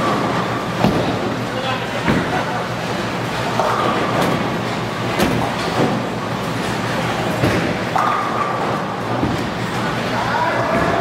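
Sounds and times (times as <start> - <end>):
bowling balls rolling on lanes: 0.0 - 11.0.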